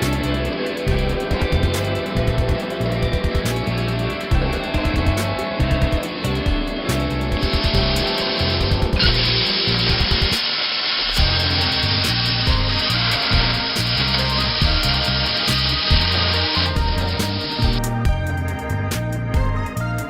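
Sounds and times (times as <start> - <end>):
music with bass and beat: 0.0 - 10.4, 11.2 - 20.0.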